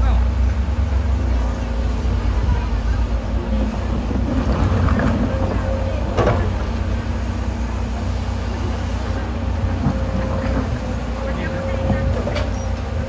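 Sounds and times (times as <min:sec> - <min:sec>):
excavator diesel engines rumbling: 0:00.0 - 0:13.0.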